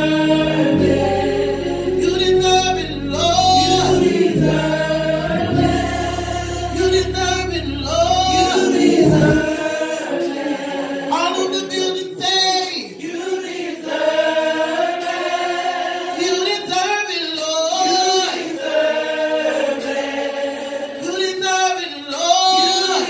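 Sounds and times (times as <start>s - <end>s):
choir singing: 0.0s - 17.0s, 17.6s - 23.0s.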